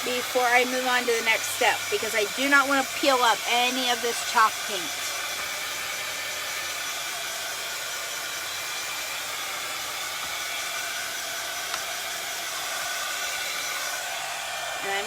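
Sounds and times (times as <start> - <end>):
hot-air dryer blowing: 0.0 - 15.0.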